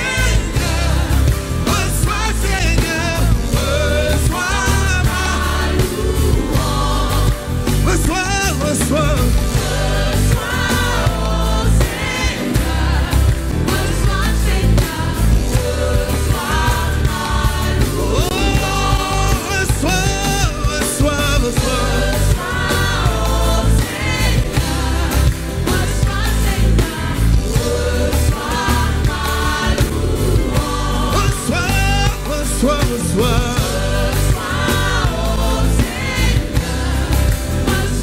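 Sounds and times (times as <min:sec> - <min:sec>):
band with steady bass beat: 0:00.0 - 0:38.0
voices singing together: 0:00.0 - 0:38.0.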